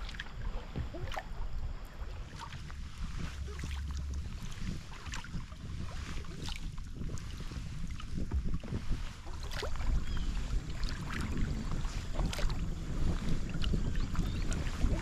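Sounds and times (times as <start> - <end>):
paddle strokes splashing water: 0.0 - 15.0
wind rumble on microphone: 0.0 - 15.0.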